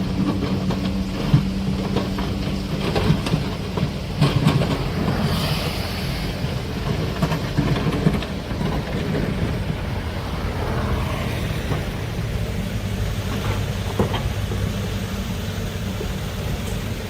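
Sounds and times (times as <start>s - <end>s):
heavy machinery low drone: 0.0s - 17.0s.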